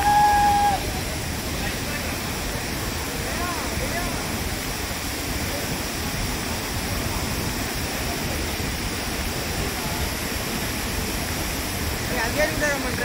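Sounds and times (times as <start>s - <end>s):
waterfall crashing: 0.0s - 13.0s.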